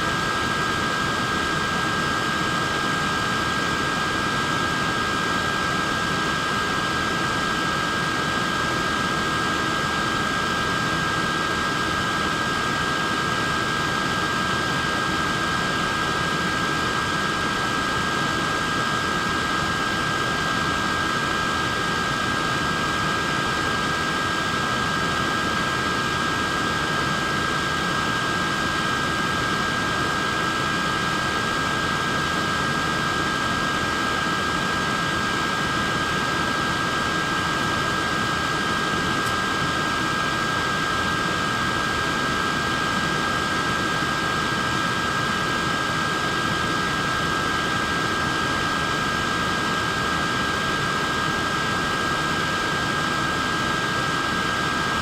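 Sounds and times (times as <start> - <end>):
high-pitched motor whine: 0.0 - 55.0.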